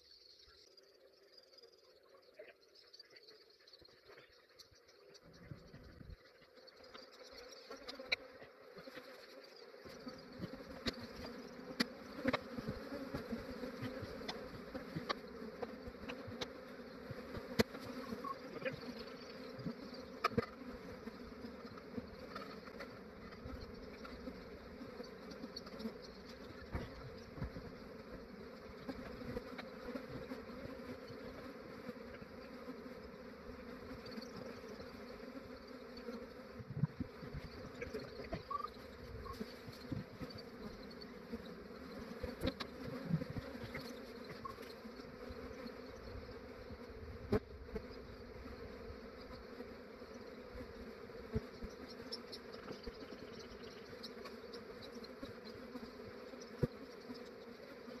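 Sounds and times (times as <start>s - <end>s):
honey bees buzzing: 5.0s - 58.0s.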